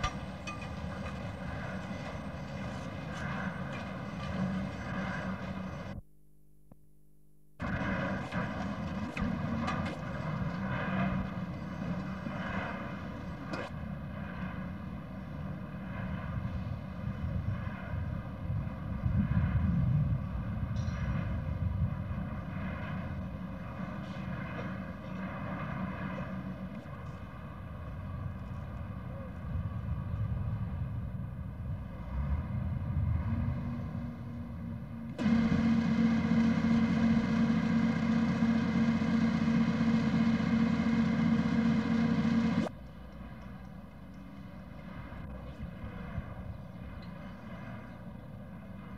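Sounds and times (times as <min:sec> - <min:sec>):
crane engine running: 0:00.0 - 0:06.0, 0:07.6 - 0:48.9
film soundtrack rumble and hum: 0:00.0 - 0:06.1, 0:07.6 - 0:48.9.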